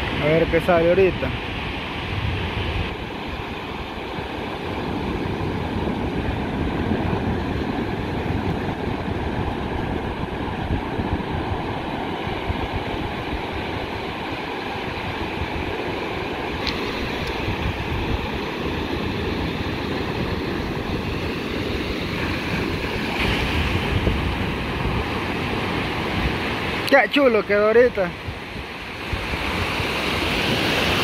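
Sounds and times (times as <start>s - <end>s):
ocean surf on beach: 0.0s - 31.0s
wind buffeting microphone: 0.0s - 31.0s.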